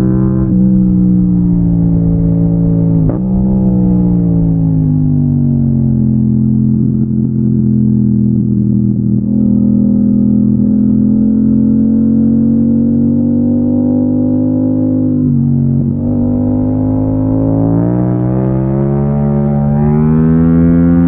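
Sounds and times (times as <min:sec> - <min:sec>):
motorcycle engine under way: 0:00.0 - 0:21.0.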